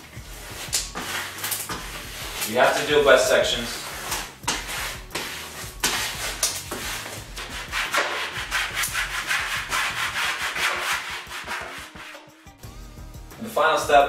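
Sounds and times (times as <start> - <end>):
squeegee rubbing over vinyl: 0.0 - 12.3.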